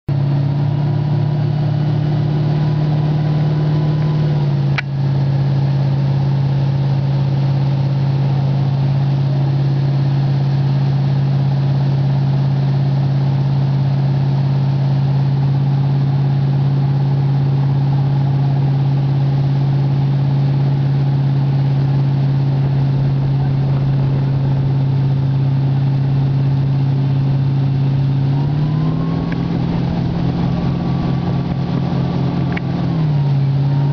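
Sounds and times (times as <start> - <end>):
motorboat engine running: 0.1 - 33.9.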